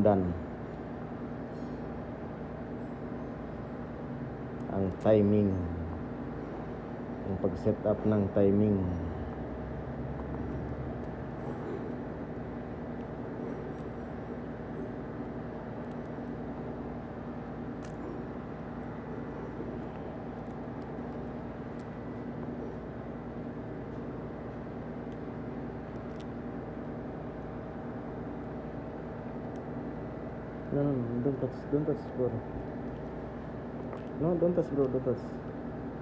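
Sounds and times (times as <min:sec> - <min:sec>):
machine humming: 0:00.0 - 0:36.0.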